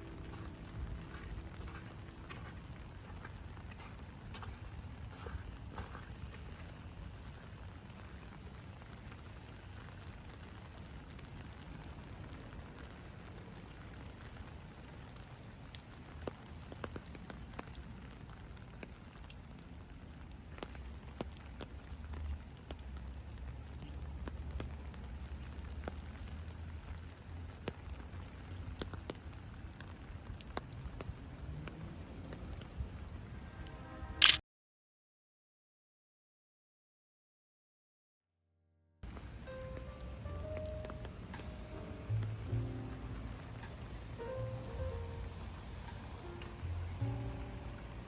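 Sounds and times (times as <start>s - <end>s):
rain falling on pavement: 0.0s - 33.4s, 39.0s - 48.0s.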